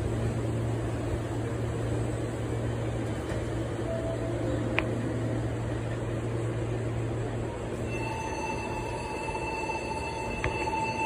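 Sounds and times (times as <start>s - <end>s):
low hum of station platform: 0.0s - 11.0s.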